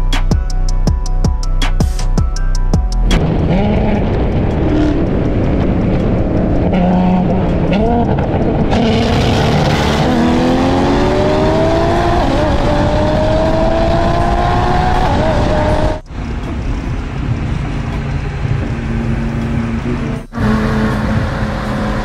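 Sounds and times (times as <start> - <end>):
rush of road noise: 3.0 - 22.0
car engines accelerating: 3.1 - 22.0.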